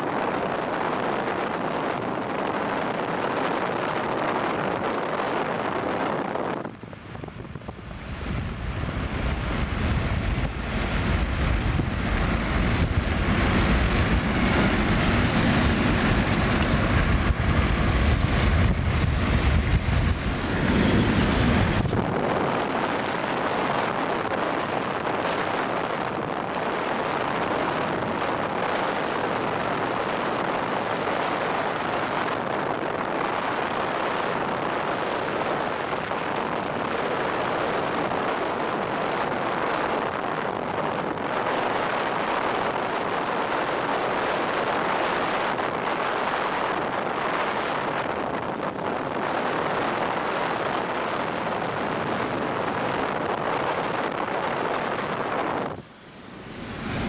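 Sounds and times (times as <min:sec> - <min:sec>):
car road and wind noise: 0:00.0 - 0:57.0
low wind rumble on microphone: 0:00.0 - 0:57.0.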